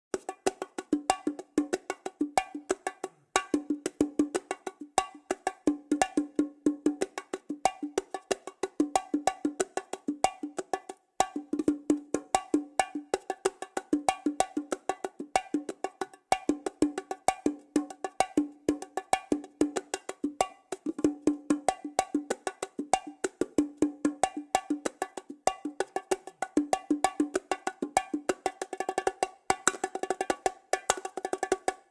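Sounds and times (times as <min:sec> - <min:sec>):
toy bongo drums: 0:00.1 - 0:31.9.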